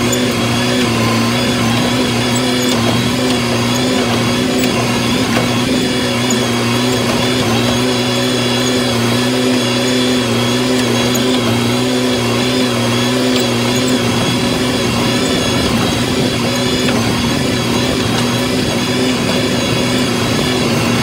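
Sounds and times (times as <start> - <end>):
tractor engine running steadily: 0.0 - 21.0.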